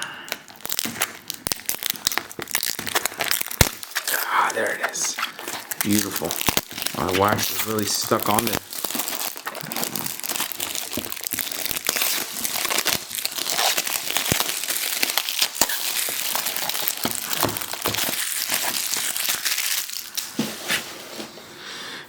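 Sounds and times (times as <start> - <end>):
plastic wrapping crinkling: 0.0 - 21.4.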